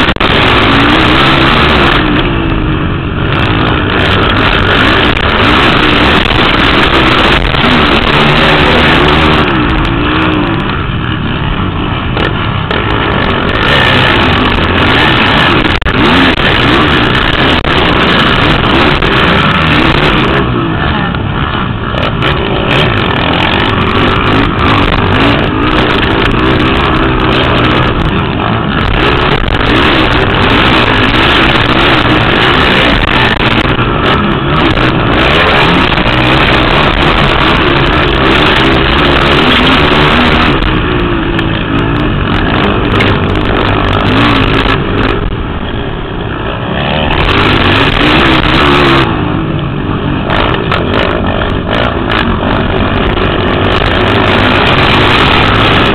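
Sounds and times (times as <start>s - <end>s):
quad engines revving: 0.0s - 55.9s.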